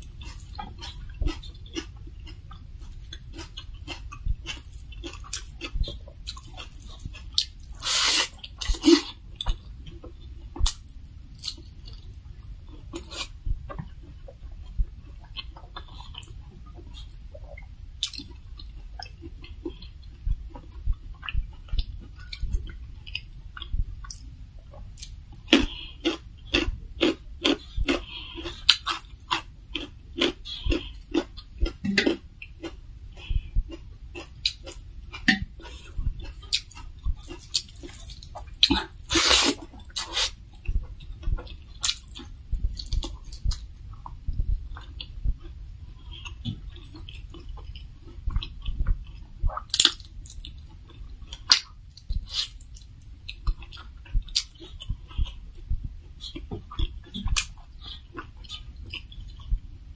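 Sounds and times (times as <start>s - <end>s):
person chewing with wet mouth clicks: 0.0s - 12.1s, 12.7s - 59.6s.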